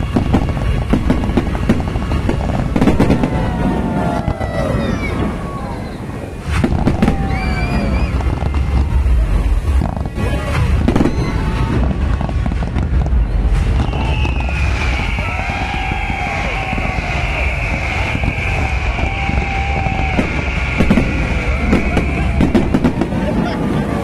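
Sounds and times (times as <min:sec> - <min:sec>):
deep rumble: 0:00.0 - 0:24.0
fireworks bangs and crackling: 0:00.0 - 0:24.0.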